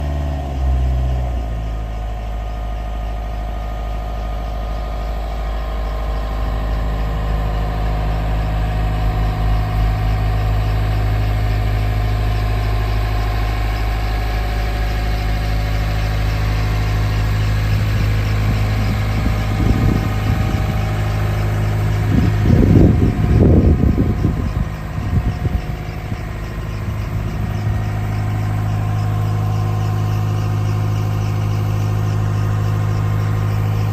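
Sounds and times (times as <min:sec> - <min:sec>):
diesel excavator engine running: 0:00.0 - 0:33.9.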